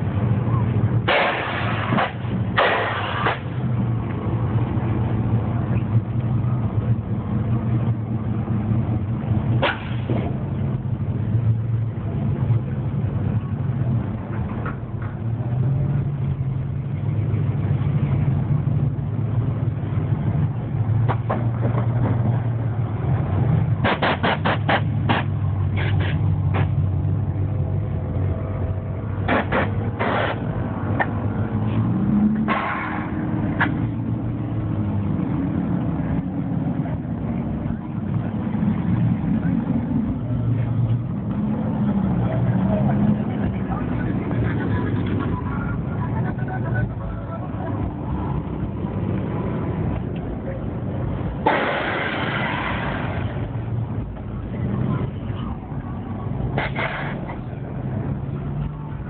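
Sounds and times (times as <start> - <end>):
car and truck engines rumbling: 0.0 - 59.0.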